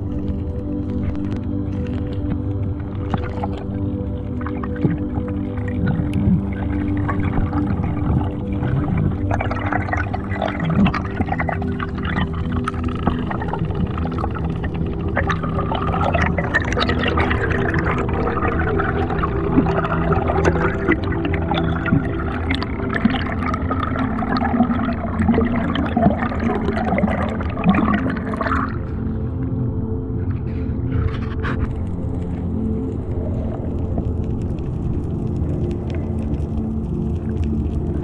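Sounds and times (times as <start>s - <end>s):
small crackles: 0.0s - 29.0s, 30.2s - 38.0s
underwater rushing and bubbling: 0.0s - 38.0s.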